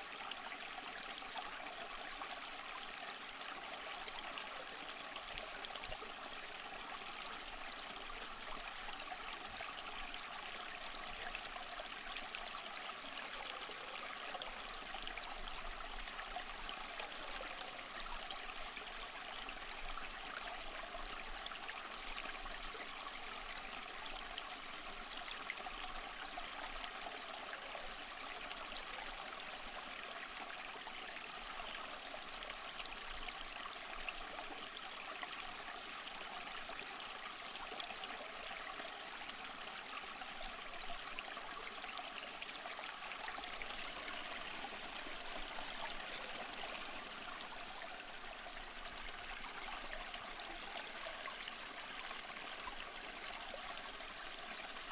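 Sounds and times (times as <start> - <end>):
stream water running over stones: 0.0 - 54.9.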